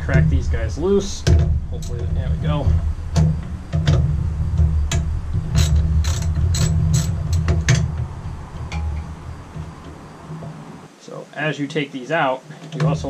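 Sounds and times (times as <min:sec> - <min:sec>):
steady low rumble: 0:00.0 - 0:10.9.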